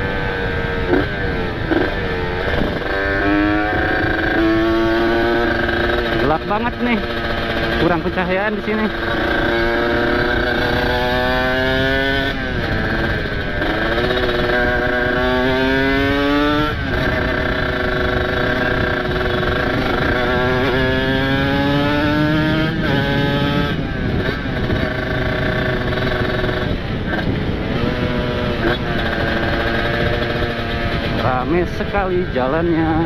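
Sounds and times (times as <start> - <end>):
two-stroke motorcycle revving: 0.0 - 33.0.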